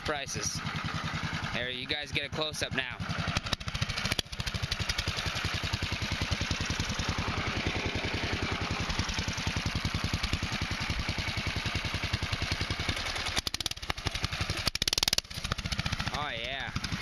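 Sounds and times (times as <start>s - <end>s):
go-kart engine idling: 0.0s - 17.0s.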